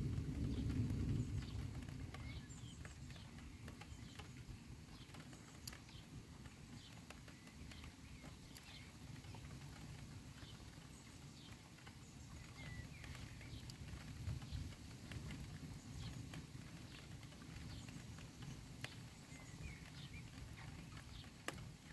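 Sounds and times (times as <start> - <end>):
raindrops ticking: 0.0 - 21.9.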